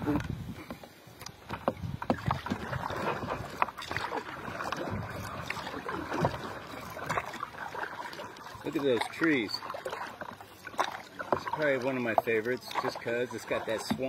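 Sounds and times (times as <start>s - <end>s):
paddle splashing water: 0.0s - 14.0s
water washing: 1.3s - 14.0s.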